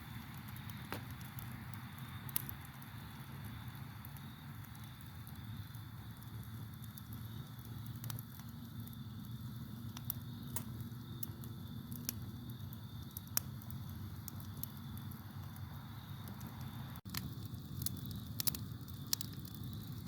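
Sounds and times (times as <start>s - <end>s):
campfire crackling: 0.0s - 20.0s
crickets trilling: 0.0s - 20.0s.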